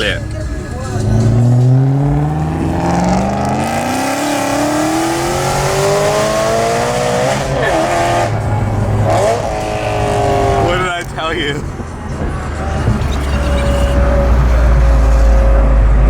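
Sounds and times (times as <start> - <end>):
car engine at full throttle: 0.0 - 16.0.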